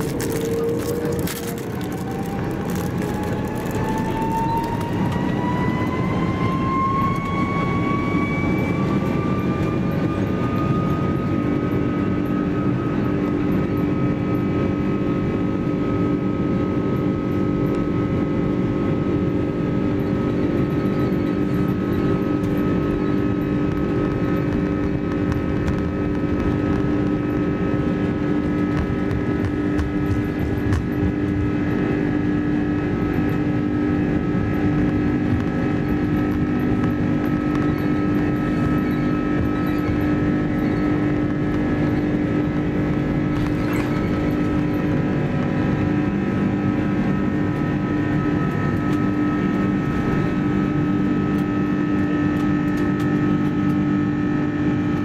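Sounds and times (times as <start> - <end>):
jet engine whine: 0.0 - 55.0
loud constant rush: 0.0 - 55.0
low steady hum: 6.7 - 55.0.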